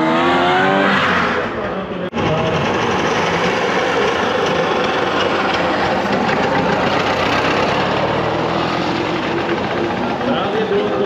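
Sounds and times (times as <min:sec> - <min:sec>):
car engines passing by: 0:00.0 - 0:11.0.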